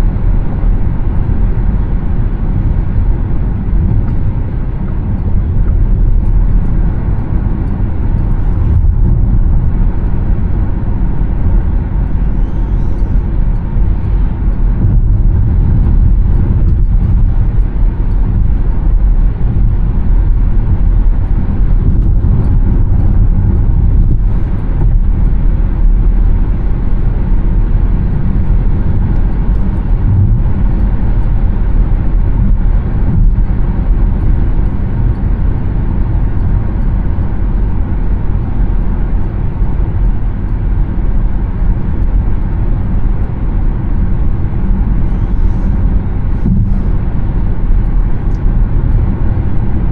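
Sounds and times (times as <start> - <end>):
road and wind noise in car: 0.0 - 49.9.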